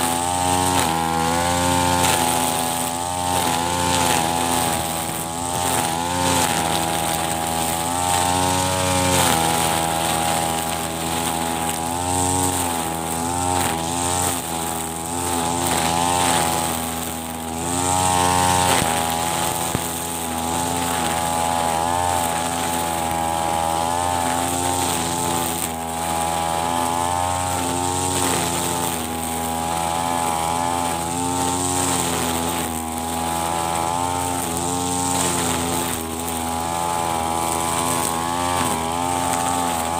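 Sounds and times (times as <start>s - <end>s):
brush cutter engine revving: 0.0s - 39.9s
nylon line cutting grass: 0.0s - 39.9s.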